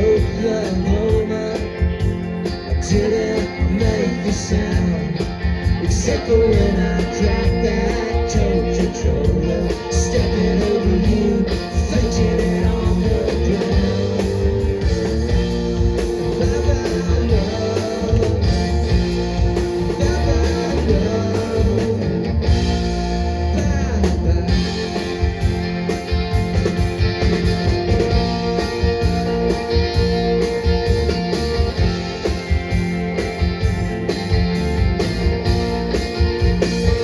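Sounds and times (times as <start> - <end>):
live band music led by guitar: 0.0 - 37.0.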